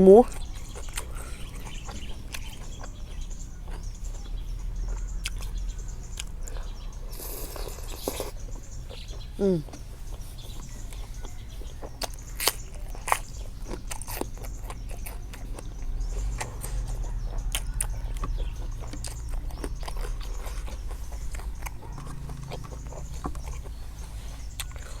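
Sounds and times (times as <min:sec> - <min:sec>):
person chewing crunchy food: 0:00.2 - 0:25.0.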